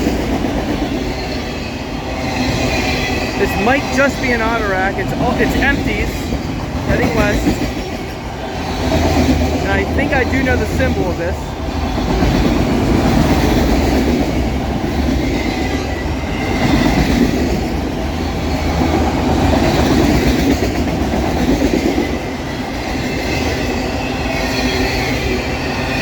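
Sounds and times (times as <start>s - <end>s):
freight cars rolling on rails: 0.0s - 26.0s.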